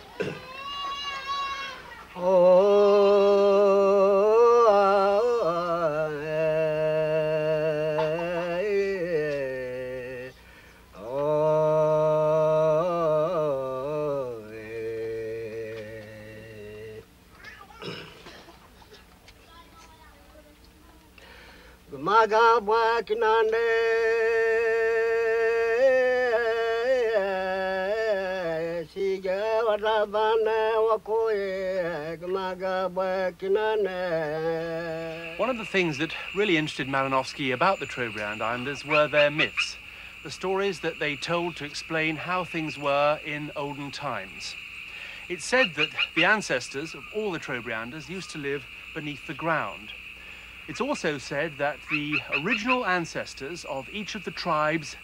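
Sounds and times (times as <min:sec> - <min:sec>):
old man singing unaccompanied: 0:01.6 - 0:17.1, 0:21.8 - 0:55.0.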